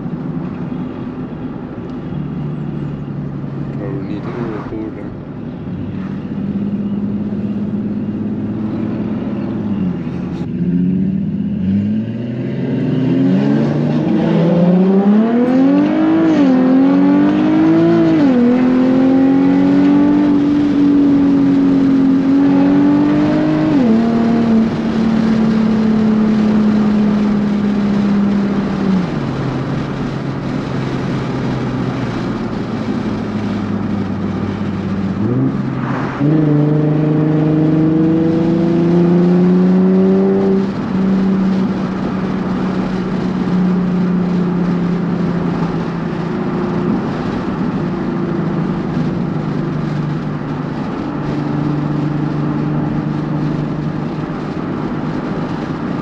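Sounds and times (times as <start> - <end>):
sports car engine accelerating: 0.0 - 56.0.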